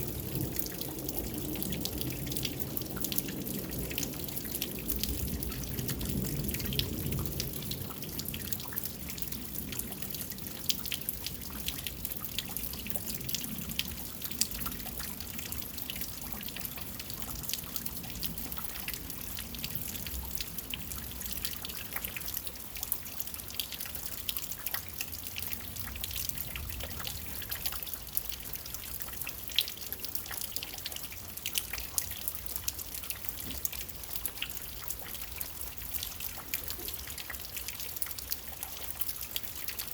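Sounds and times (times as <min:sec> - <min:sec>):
drops and drips ticking: 0:00.0 - 0:39.9.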